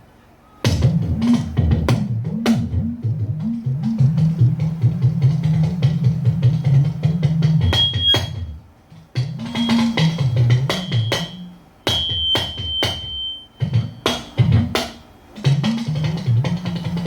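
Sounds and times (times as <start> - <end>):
talking drum strokes: 0.6 - 17.0.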